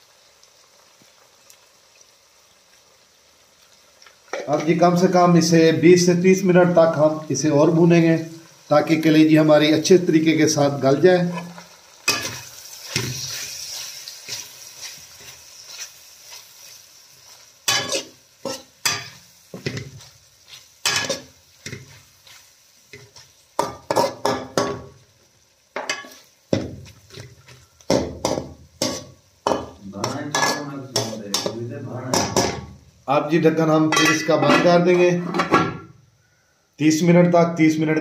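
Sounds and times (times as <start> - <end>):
frying sizzle: 0.0 - 38.0.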